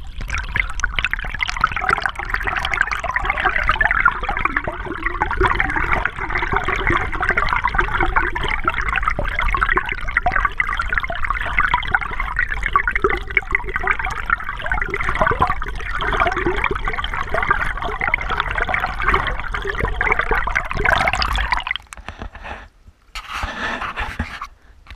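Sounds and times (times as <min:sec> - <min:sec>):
stream rushing underwater: 0:00.0 - 0:22.3.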